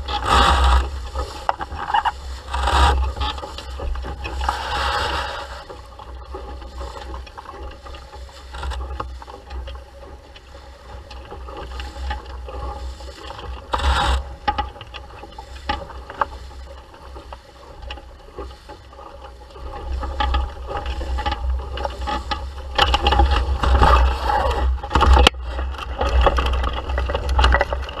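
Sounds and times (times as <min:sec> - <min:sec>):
boat knocks and scrapes: 0:00.0 - 0:28.0
water splashing along hull: 0:00.0 - 0:28.0.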